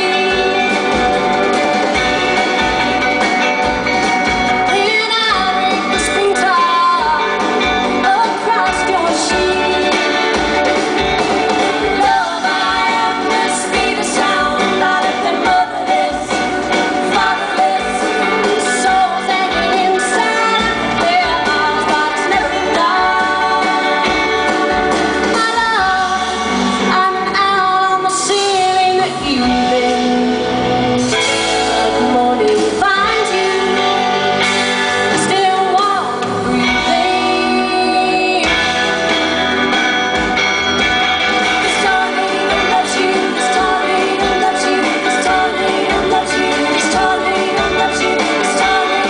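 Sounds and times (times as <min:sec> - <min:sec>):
woman singing: 0:00.0 - 0:01.0, 0:04.6 - 0:10.5, 0:11.6 - 0:34.3, 0:35.0 - 0:38.8, 0:41.4 - 0:49.0
live rock band playing: 0:00.0 - 0:49.0.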